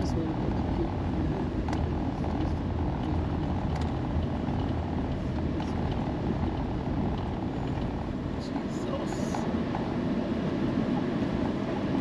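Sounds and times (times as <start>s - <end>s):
van engine and tyre noise: 0.0s - 12.0s.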